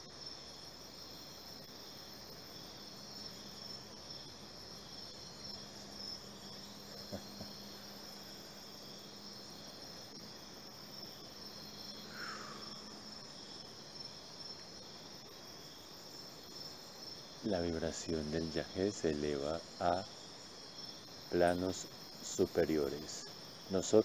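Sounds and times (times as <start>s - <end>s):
faint low hum: 0.0s - 24.0s
high-pitched insect chorus: 0.0s - 24.0s.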